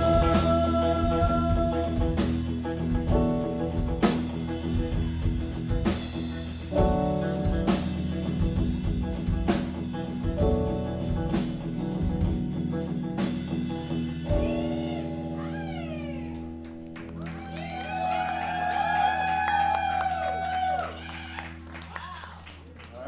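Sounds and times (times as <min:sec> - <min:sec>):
rock band playing: 0:00.0 - 0:22.1.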